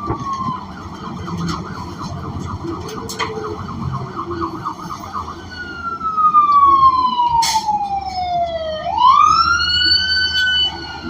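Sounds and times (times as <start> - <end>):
electronic siren yelping and wailing: 0.0 - 11.0.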